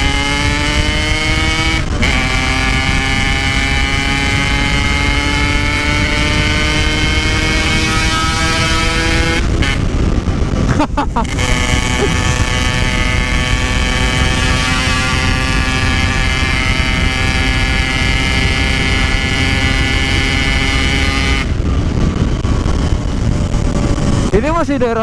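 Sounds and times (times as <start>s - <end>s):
motorcycle engine revving: 0.0s - 25.0s
road and wind rumble: 0.0s - 25.0s.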